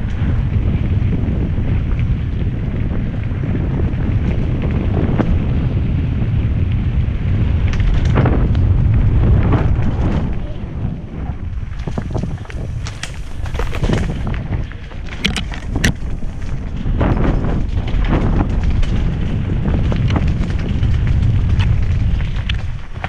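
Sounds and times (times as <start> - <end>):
bike rattling over rough ground: 0.0 - 23.0
wind rushing over microphone: 0.0 - 23.0.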